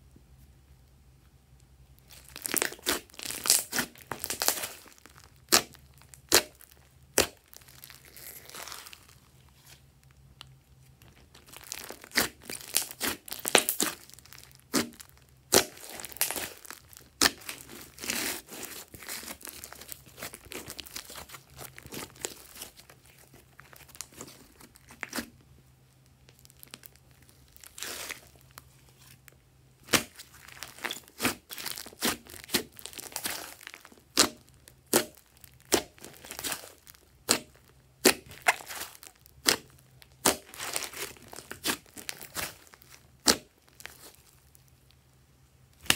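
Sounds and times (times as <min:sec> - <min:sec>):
slime crackling and popping: 0:02.0 - 0:45.0, 0:45.7 - 0:45.9.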